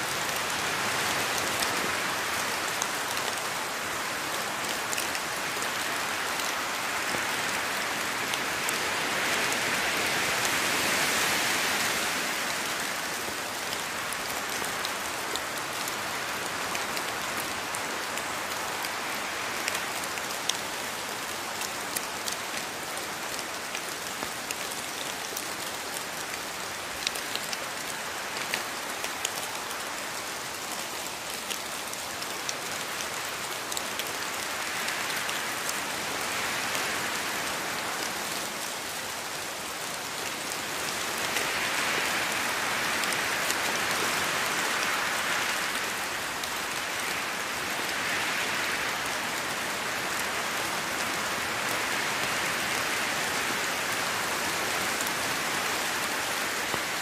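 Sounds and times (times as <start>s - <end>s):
rain on foliage: 0.0s - 57.0s.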